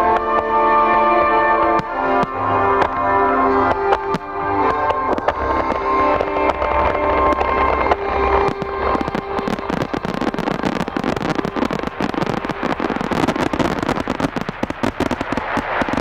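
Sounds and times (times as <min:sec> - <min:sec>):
fireworks barrage with crackles: 0:00.0 - 0:16.0.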